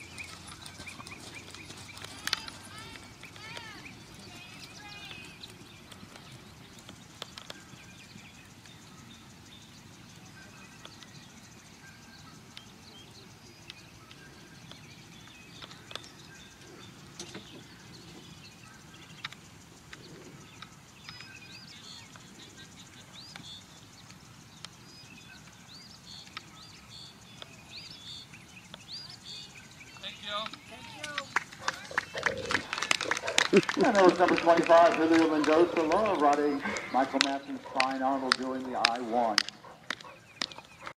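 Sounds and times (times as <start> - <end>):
low background noise: 0.0 - 40.9
small birds chirping: 0.0 - 40.9.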